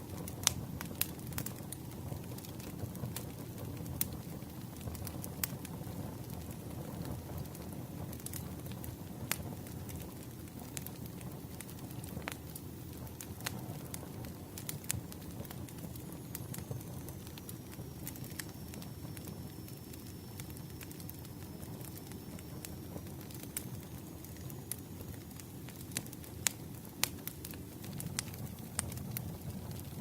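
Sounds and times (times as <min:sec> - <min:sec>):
burning wood crackling: 0:00.0 - 0:30.0
campfire rumble: 0:00.0 - 0:30.0.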